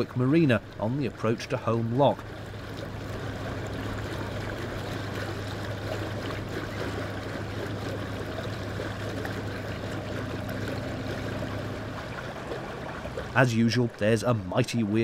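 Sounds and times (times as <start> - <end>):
boat engine droning: 0.0 - 15.0
water rushing along hull: 0.0 - 15.0.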